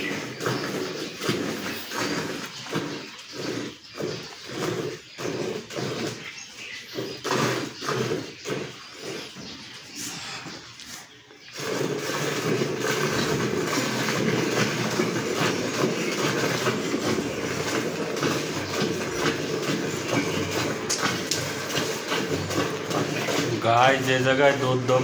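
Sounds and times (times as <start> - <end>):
milk squirting into a pail: 0.0 - 25.0.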